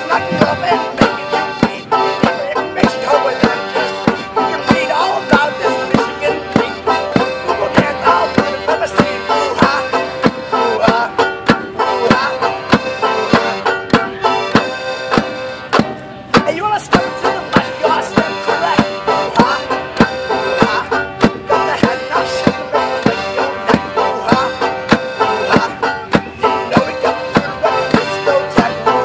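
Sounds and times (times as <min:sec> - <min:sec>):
accordion chords: 0:00.0 - 0:29.0
banjo strumming: 0:00.0 - 0:29.0.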